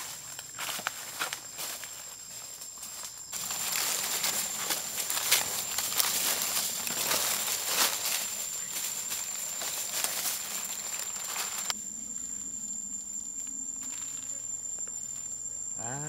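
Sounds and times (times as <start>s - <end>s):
crackly rustling and scraping: 0.0s - 15.4s
cricket trilling: 0.0s - 16.0s.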